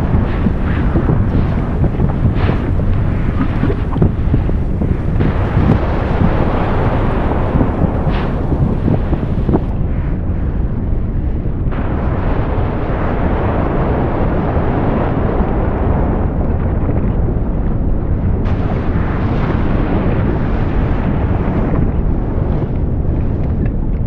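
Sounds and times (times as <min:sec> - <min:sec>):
volcano erupting rumble: 0:00.0 - 0:24.0.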